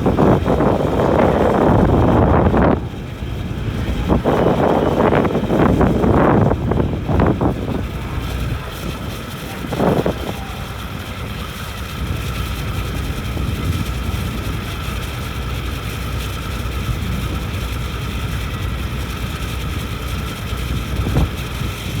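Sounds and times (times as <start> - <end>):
ferry engine droning: 0.0 - 22.0
wind on microphone: 0.0 - 22.0.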